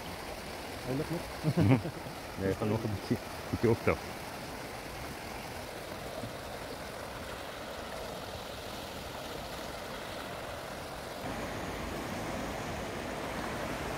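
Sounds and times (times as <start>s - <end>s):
floodwater rushing and churning: 0.0s - 13.9s.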